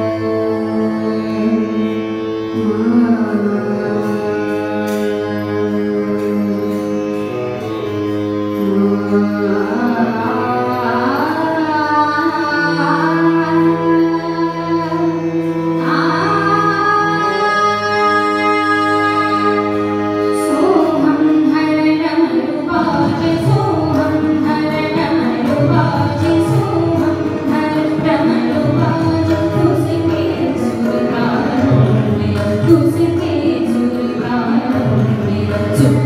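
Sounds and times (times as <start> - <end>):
harmonium holding long notes: 0.0 - 36.0.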